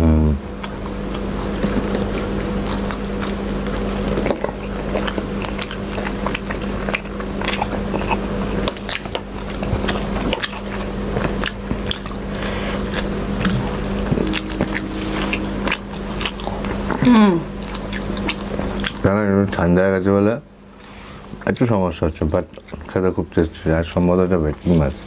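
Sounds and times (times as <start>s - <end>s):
people chewing food: 0.0s - 25.0s
steady hum: 0.0s - 25.0s.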